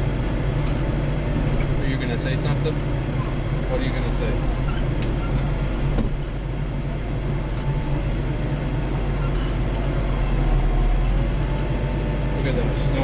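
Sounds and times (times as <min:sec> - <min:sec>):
tractor diesel engine drone: 0:00.0 - 0:13.0.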